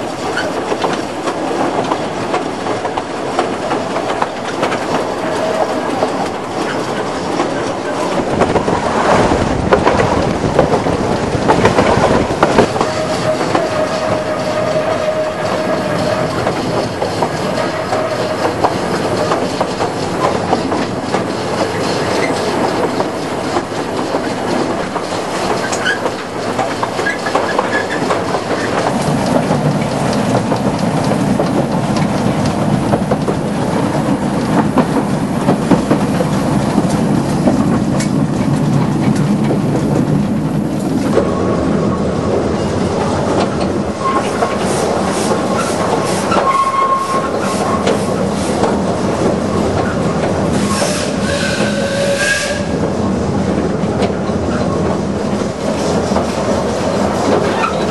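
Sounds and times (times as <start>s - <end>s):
train wheels clattering: 0.0s - 57.9s.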